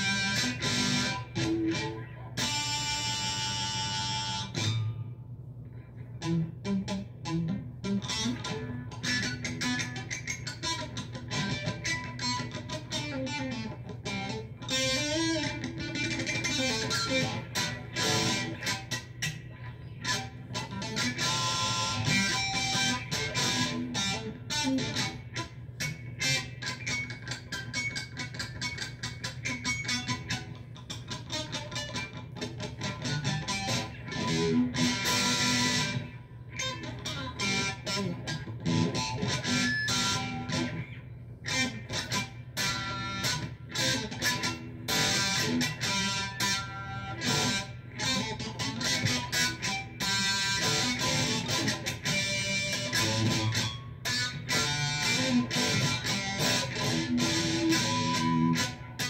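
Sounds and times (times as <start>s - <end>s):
electric guitar solo: 0.0s - 59.0s.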